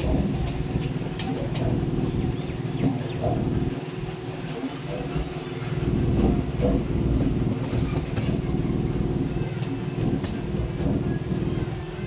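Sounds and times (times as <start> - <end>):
electric train hum: 0.0 - 12.0.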